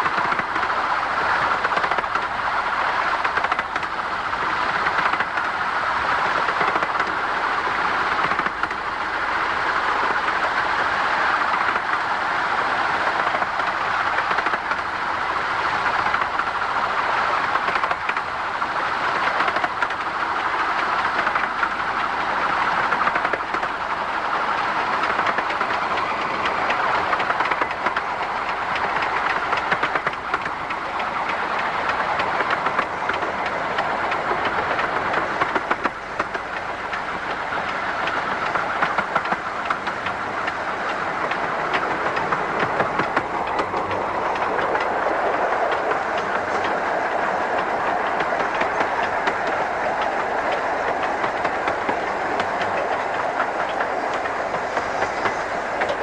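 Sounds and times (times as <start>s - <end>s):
rapid clicking of wheels: 0.0s - 12.1s, 13.0s - 16.7s, 17.4s - 56.0s
steam locomotive running: 0.0s - 56.0s.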